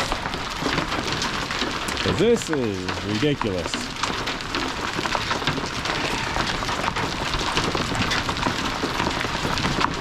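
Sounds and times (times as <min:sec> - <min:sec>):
hail and rain pelting: 0:00.0 - 0:10.0.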